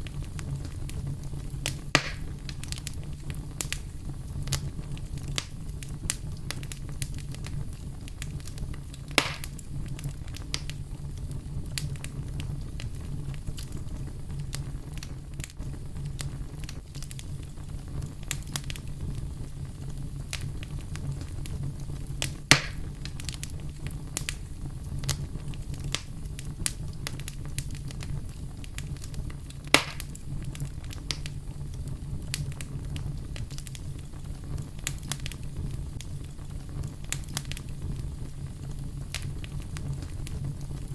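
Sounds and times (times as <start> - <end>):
fire low rumble: 0.0 - 40.9
sharp fire pops: 0.0 - 40.9
wood fire crackling: 0.0 - 40.9.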